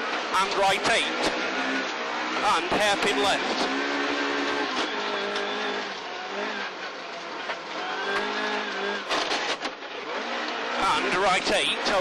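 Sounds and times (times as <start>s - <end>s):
car engine revving: 0.0s - 12.0s
road and tyre noise: 0.0s - 12.0s.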